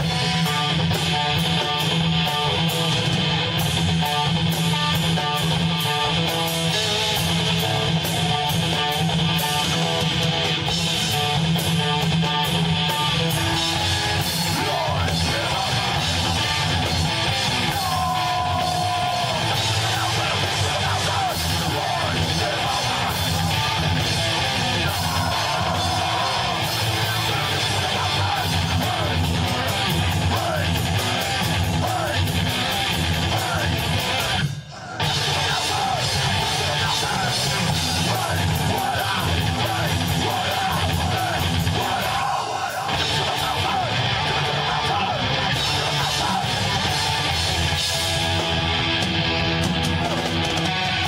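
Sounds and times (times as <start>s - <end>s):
rock band playing: 0.0s - 51.0s.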